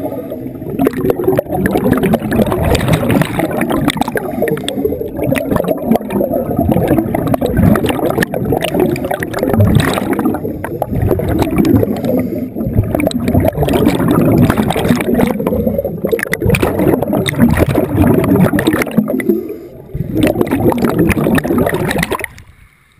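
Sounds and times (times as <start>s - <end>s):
underwater exhaust bubbles gurgling: 0.0s - 22.6s.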